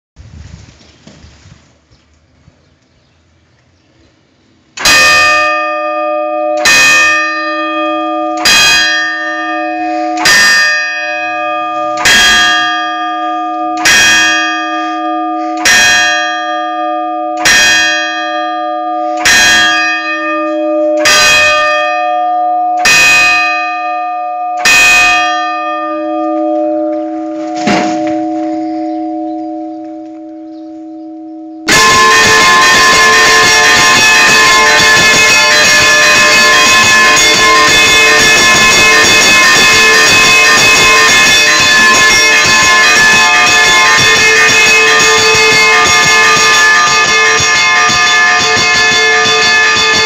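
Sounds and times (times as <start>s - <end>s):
church bell tolling: 4.8s - 50.0s.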